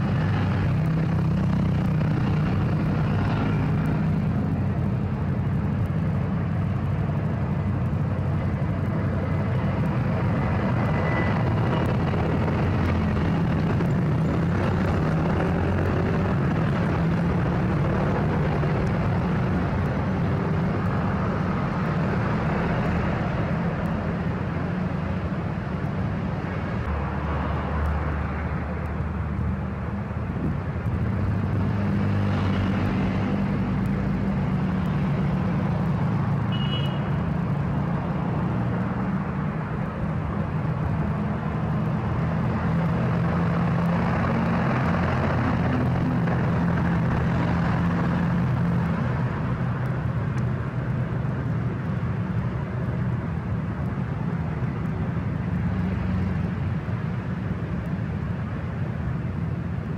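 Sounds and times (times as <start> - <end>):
road traffic noise: 0.0 - 59.9
truck diesel engines passing: 0.0 - 59.9.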